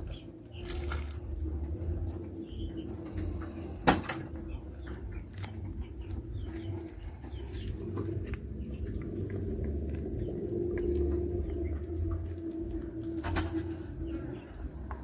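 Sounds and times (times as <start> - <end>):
chickens murmuring: 0.0 - 15.0.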